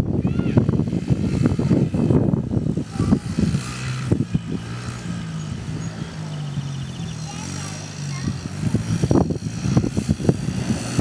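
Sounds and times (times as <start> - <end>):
dirt bike engines running: 0.0 - 11.0.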